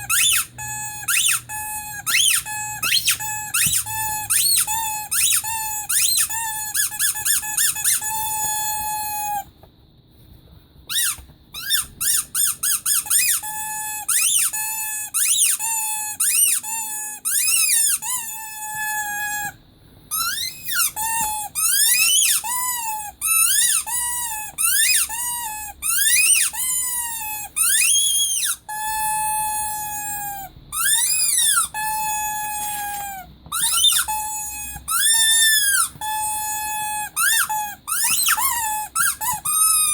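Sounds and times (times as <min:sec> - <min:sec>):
rubber squeaky toy squeaking: 0:00.0 - 0:09.5, 0:10.9 - 0:39.9.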